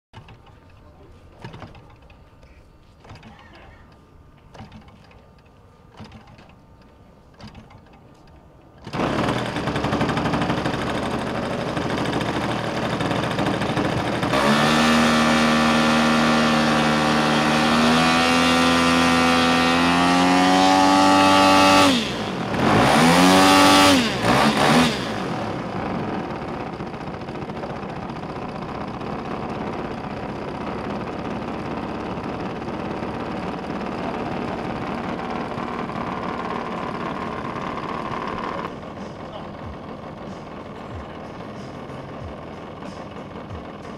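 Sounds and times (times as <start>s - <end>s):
model airplane engine running: 0.2s - 43.9s.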